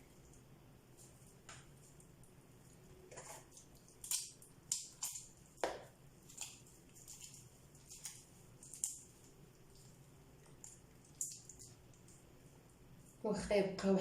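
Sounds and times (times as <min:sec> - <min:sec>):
hands squelching and patting dough: 0:00.0 - 0:13.4.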